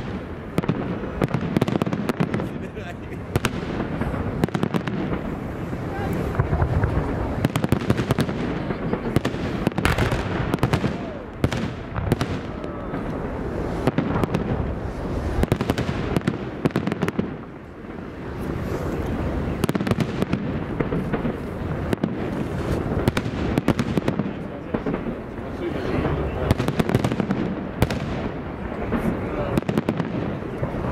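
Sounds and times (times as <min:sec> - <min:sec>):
fireworks bangs and crackles: 0:00.0 - 0:30.9.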